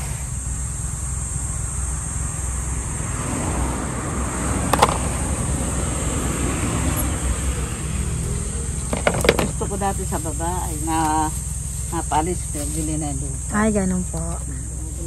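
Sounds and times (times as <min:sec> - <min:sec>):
car passing: 0:00.0 - 0:15.0
low traffic rumble: 0:00.0 - 0:15.0.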